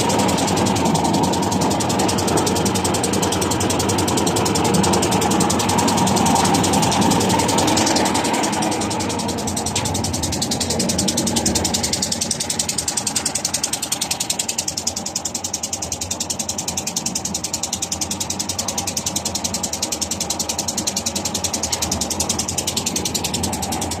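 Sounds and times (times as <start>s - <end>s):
concrete mixer diesel engine: 0.0s - 24.0s.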